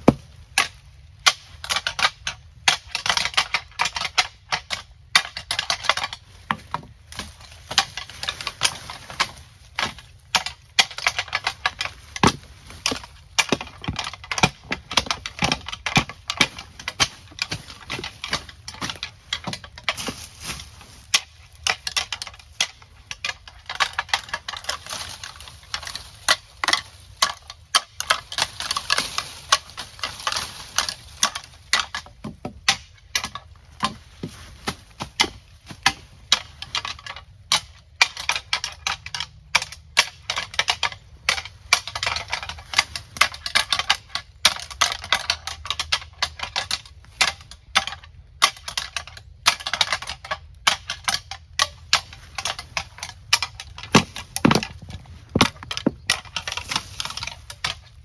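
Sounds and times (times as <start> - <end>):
deer antlers clacking and grinding: 0.0 - 34.3, 35.1 - 58.0.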